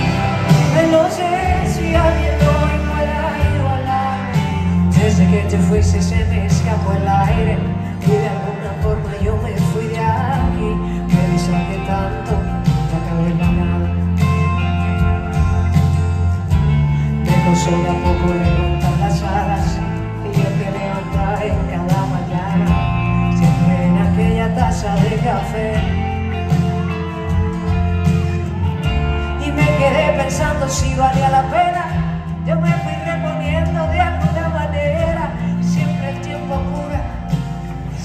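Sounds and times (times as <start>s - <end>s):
bass line: 0.0s - 38.0s
live band playing pop ballad: 0.0s - 38.0s
person singing: 0.0s - 38.0s.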